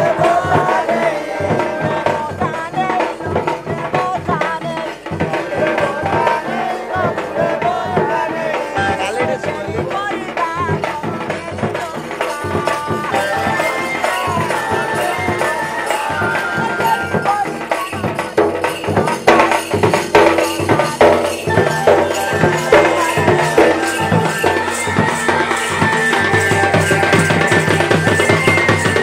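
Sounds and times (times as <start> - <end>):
drums and percussion beating: 0.0 - 29.0
held melody line: 0.0 - 29.0.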